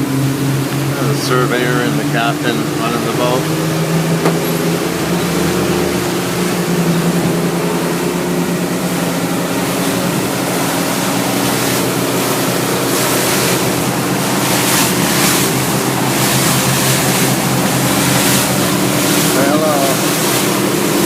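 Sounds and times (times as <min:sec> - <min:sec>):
outboard motors droning: 0:00.0 - 0:21.0
water and wind rushing: 0:00.0 - 0:21.0.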